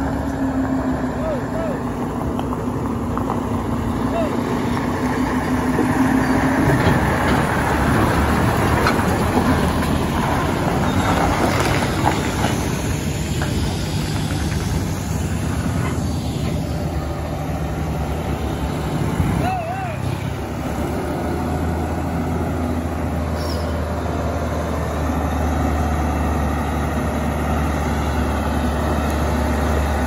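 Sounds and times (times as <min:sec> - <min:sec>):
truck diesel engine running: 0:00.0 - 0:30.0
tyre and road noise: 0:00.0 - 0:30.0.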